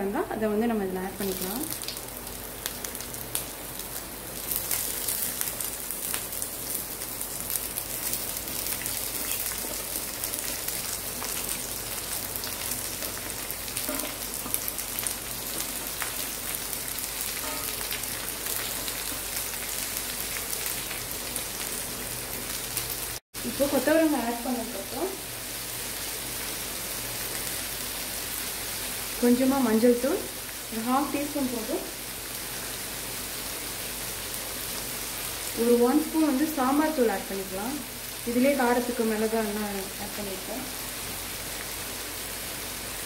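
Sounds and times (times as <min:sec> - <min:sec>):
beans sizzling in hot oil: 0:00.6 - 0:43.0.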